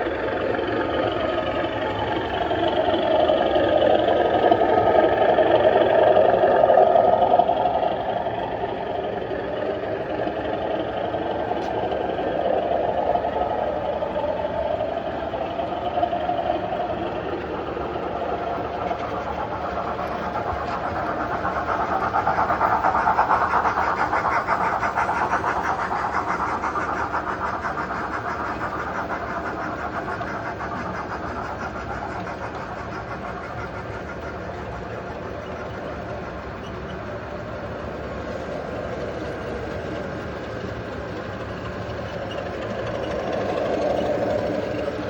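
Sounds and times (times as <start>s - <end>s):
model train running: 0.0s - 45.0s.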